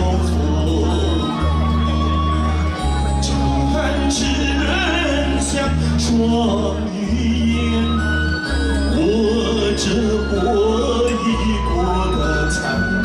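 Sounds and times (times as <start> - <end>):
man singing into microphone: 0.0 - 1.8, 3.2 - 13.0
backing music with bass line: 0.0 - 13.0.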